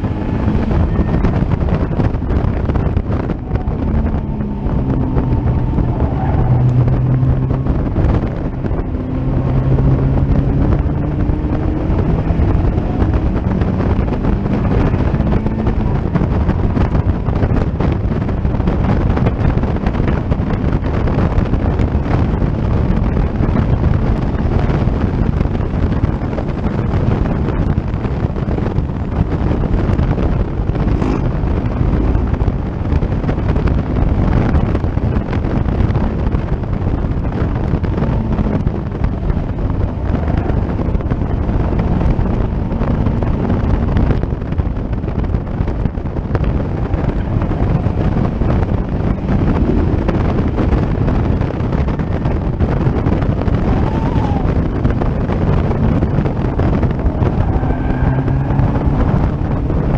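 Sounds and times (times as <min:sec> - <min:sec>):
race car engine under load: 0:00.0 - 0:59.9
wind buffeting microphone: 0:00.0 - 0:59.9.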